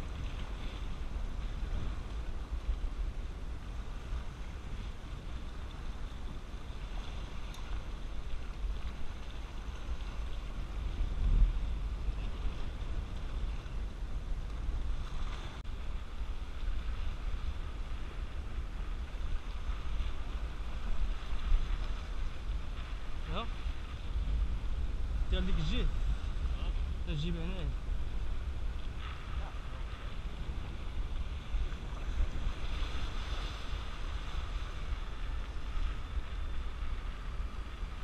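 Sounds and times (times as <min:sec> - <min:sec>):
waves washing across rocks: 0:00.0 - 0:38.0
wind buffeting microphone: 0:00.0 - 0:38.0.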